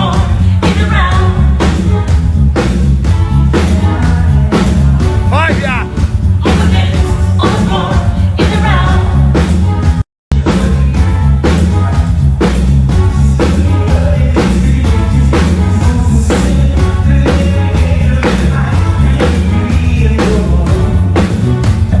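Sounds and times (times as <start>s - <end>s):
loud music with bass and singing: 0.0s - 22.0s.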